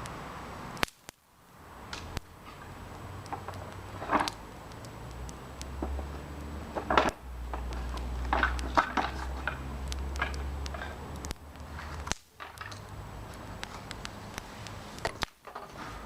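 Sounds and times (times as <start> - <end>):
low steady rumble: 0.0 - 15.1.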